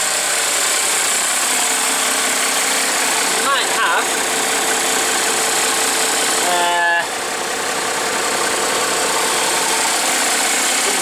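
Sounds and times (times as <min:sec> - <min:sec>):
diesel bus engine idling: 0:00.0 - 0:11.0.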